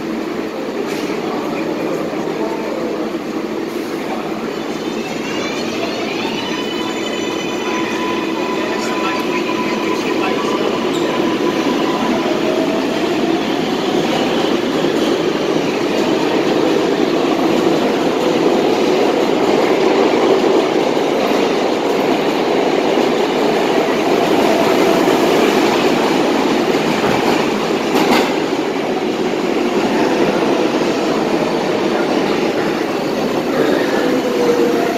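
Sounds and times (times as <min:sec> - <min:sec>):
subway train wheels clattering: 0:00.0 - 0:34.9.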